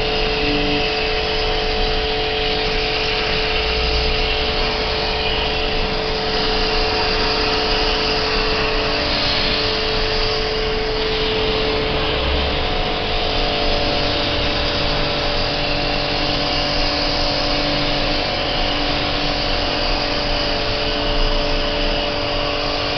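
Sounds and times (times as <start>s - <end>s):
pressure washer pump humming: 0.0s - 22.9s
water spray hissing on metal coil: 0.0s - 22.9s.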